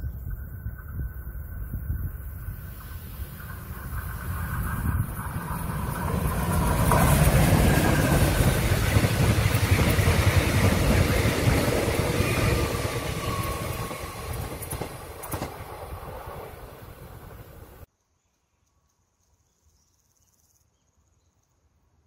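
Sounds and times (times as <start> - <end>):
train passing rumble: 0.0 - 17.9.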